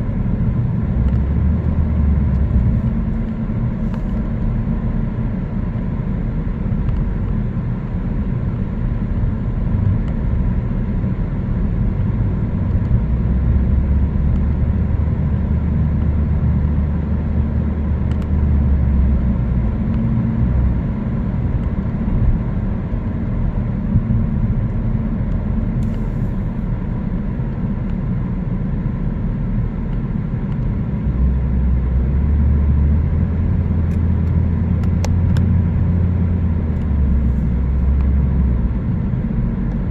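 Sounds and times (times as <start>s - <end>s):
car engine and tyre rumble: 0.0s - 39.9s
deep low drone: 0.0s - 39.9s.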